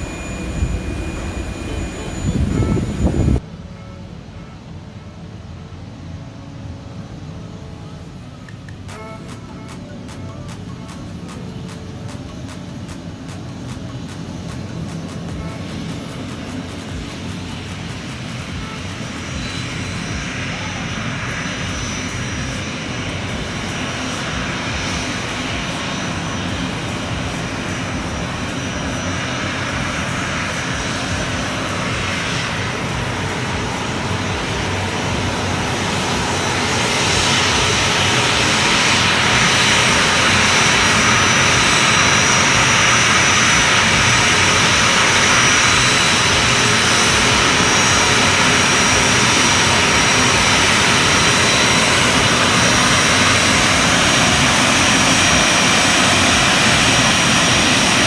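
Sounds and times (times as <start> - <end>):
airliner engines rushing and whining: 0.0 - 58.0.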